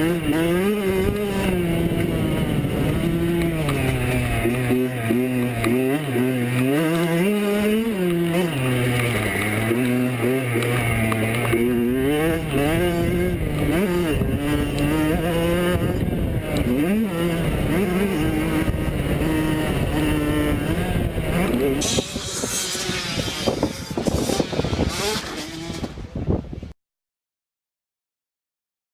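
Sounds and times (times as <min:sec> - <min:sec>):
motocross bike engines racing: 0:00.0 - 0:26.7.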